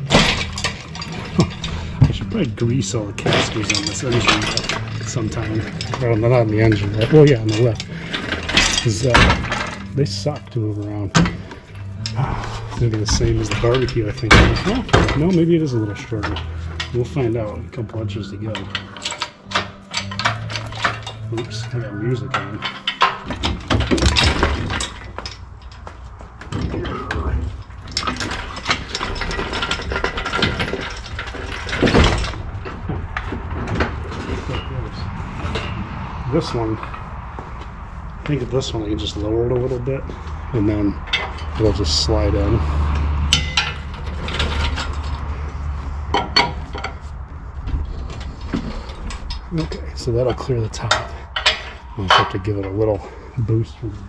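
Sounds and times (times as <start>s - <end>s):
casters rolling: 0.0s - 54.0s
chain rattling: 0.0s - 54.0s
metal clanks and knocks: 0.0s - 54.0s.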